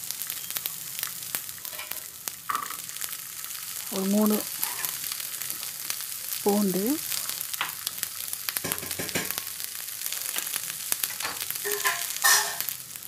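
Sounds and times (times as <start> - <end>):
shallots and garlic sizzling: 0.0 - 13.0.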